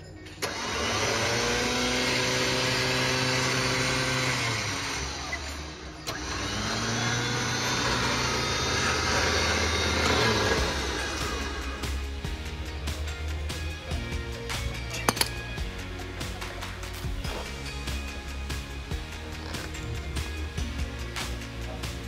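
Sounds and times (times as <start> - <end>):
electric winch motor whining: 0.3 - 22.0.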